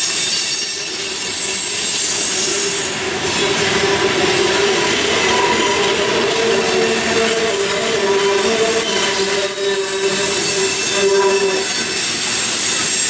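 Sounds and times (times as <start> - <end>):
high wheel squeal: 0.0 - 13.0
train wheels on rail: 0.0 - 13.0.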